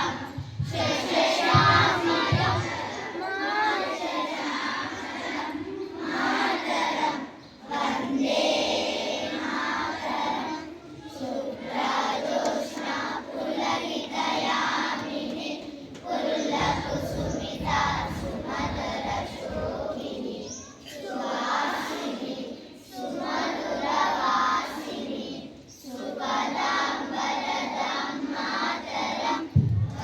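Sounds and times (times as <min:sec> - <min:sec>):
children singing a prayer: 0:00.0 - 0:30.0.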